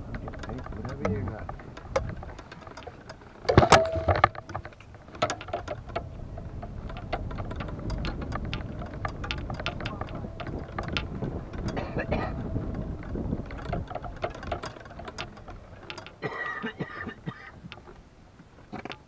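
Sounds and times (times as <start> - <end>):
golf clubs rattling in bag: 0.0 - 18.0
cart rumbling: 0.0 - 19.0.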